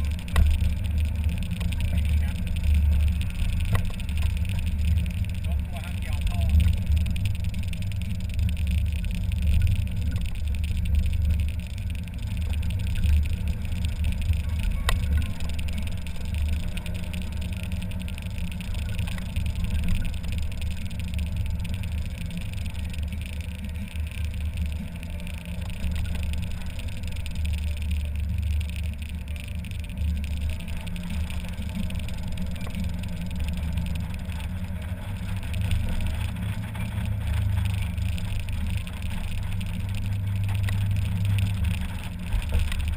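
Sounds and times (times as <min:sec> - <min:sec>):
car engine rumble: 0:00.0 - 0:42.9.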